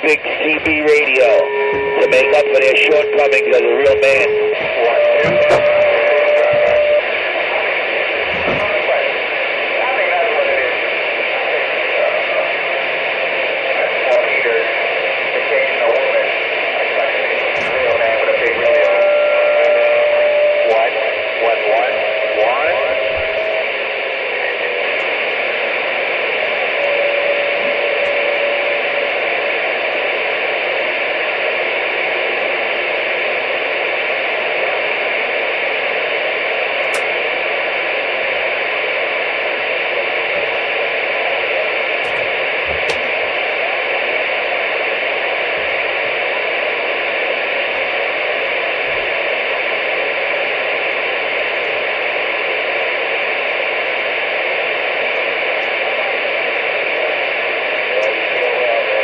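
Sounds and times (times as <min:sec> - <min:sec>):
radio static: 0:00.0 - 0:59.0.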